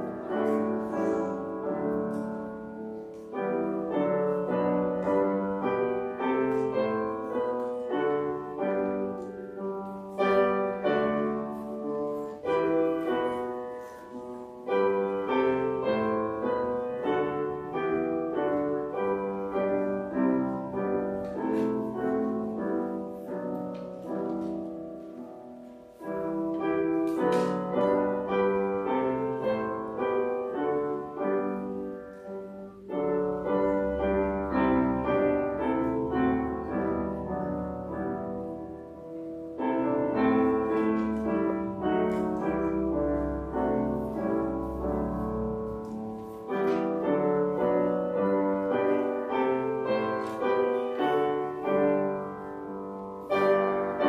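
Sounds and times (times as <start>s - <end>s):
solo piano playing: 0.0s - 54.0s.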